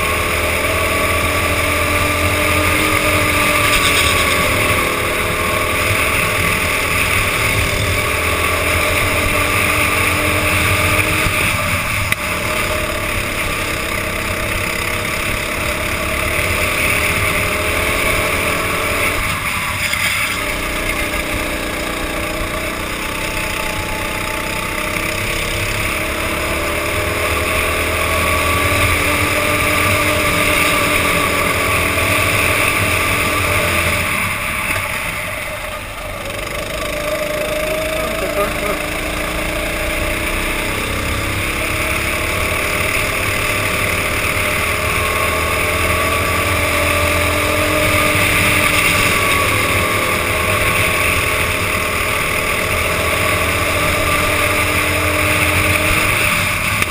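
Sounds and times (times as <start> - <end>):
kart engine running hard: 0.0 - 56.9.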